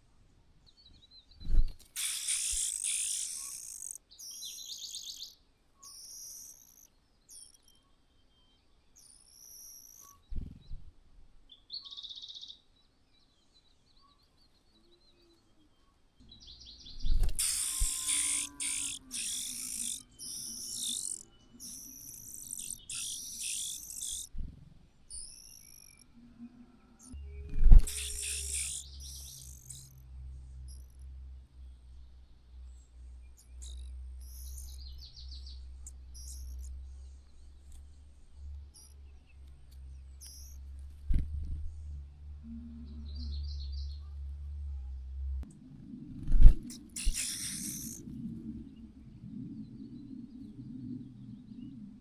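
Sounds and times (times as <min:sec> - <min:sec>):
birds chirping: 0:00.6 - 0:10.8, 0:11.5 - 0:45.6, 0:46.2 - 0:52.0.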